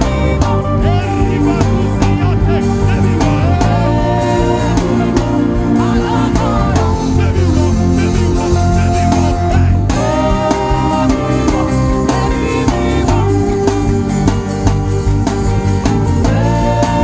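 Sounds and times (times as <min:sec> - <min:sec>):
drums and bass beat: 0:00.0 - 0:17.0
worship band music: 0:00.0 - 0:17.0.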